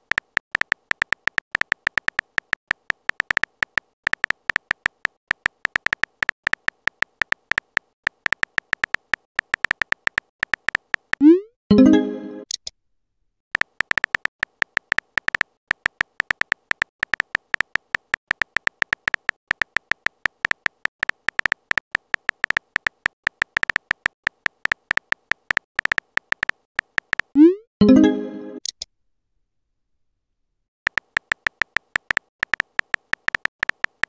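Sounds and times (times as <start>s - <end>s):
phone keyboard typing clicks: 0.0s - 11.3s, 13.6s - 27.4s, 30.9s - 34.0s.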